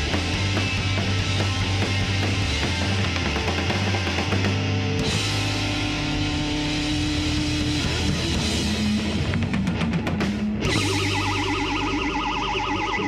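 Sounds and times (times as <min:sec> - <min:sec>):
distorted electric guitars: 0:00.0 - 0:13.0.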